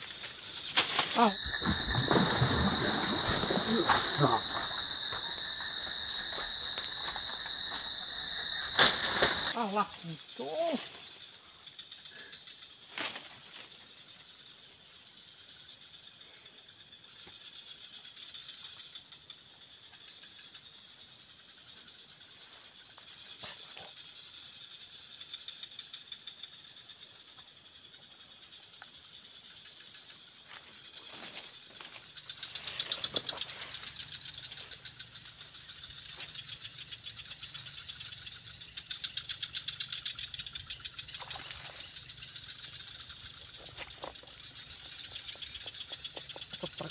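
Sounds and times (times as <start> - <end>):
insects droning and chirping: 0.0 - 46.9.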